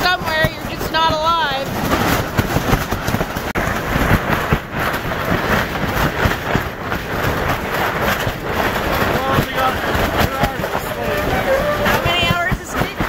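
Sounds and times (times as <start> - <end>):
gusting wind: 0.0 - 13.0
plastic sheeting flapping: 0.0 - 13.0.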